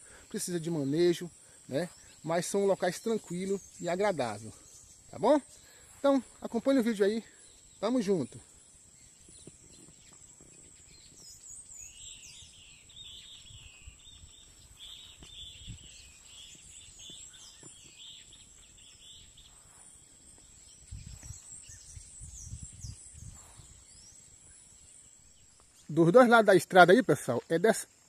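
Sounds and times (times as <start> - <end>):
birds chirping and whistling: 0.0 - 27.2.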